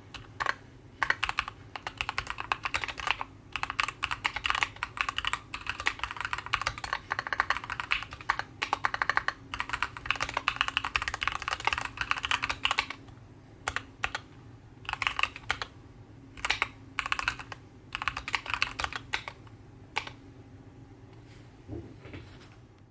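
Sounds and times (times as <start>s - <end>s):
mechanical keyboard typing: 0.1s - 13.1s, 13.7s - 15.7s, 16.4s - 20.2s.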